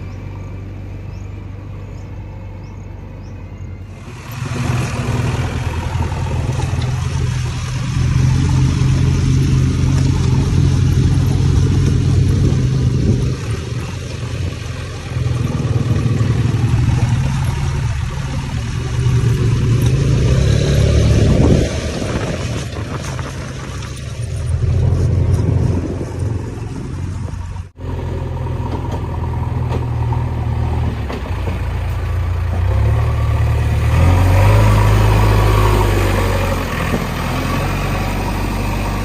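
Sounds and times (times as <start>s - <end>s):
diesel engine running hard: 0.0s - 39.0s.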